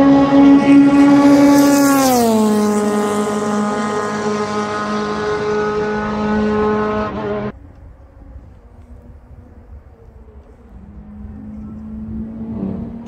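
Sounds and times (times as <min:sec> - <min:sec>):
race car engine passing: 0:00.0 - 0:13.0.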